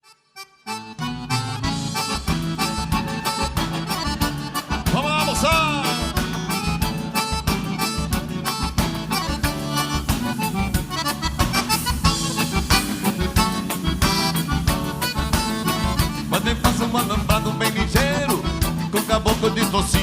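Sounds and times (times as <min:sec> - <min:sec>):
accordion lead: 0:00.0 - 0:20.0
bass: 0:00.7 - 0:20.0
drums keeping steady beat: 0:01.0 - 0:20.0.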